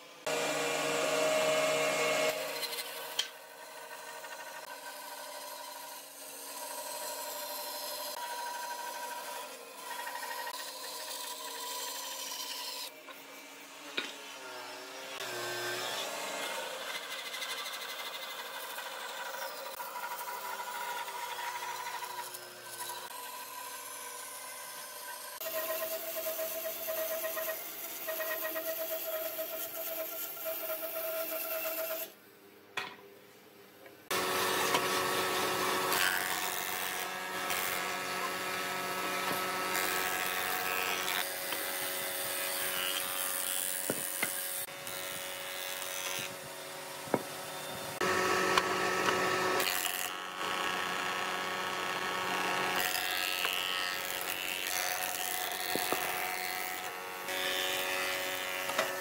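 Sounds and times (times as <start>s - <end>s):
wood lathe motor hum: 0.2s - 27.5s, 34.1s - 59.0s.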